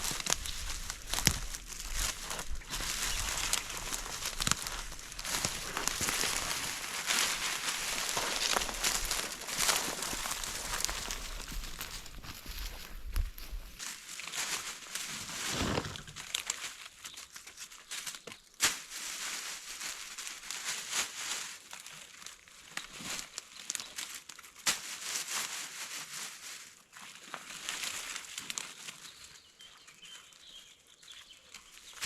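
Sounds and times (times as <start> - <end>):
rustling and crinkling: 0.0 - 30.3.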